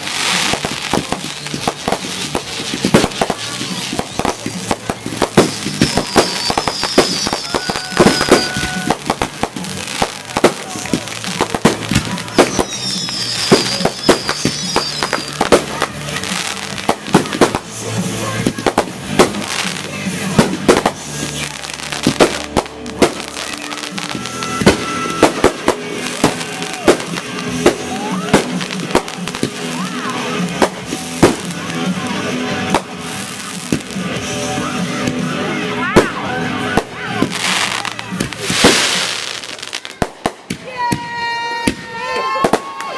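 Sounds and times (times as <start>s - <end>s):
fireworks bangs and crackles: 0.0s - 42.9s
music playing: 0.0s - 42.9s.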